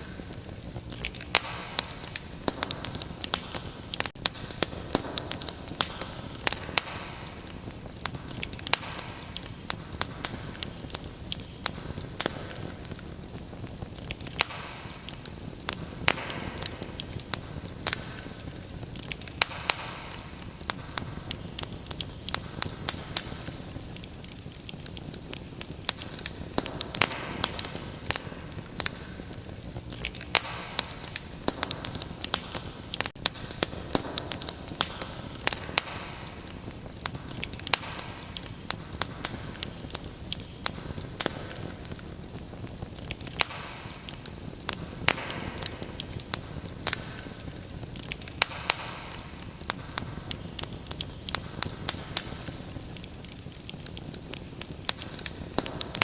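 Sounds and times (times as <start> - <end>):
low hiss of burning: 0.0 - 56.0
wood fire crackling: 0.0 - 56.0.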